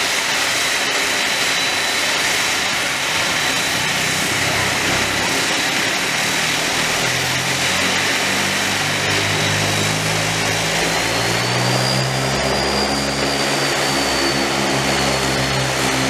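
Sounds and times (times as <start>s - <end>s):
high whine: 0.0s - 16.0s
low propeller hum: 0.0s - 16.0s
turboprop engine starting up: 0.0s - 16.0s.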